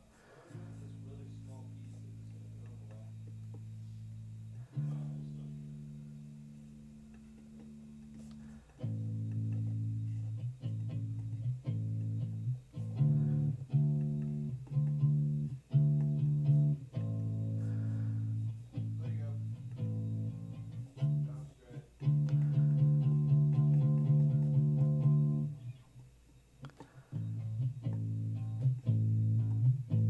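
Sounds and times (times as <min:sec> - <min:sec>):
plucked electric bass guitar: 0:00.6 - 0:25.8, 0:27.1 - 0:30.0.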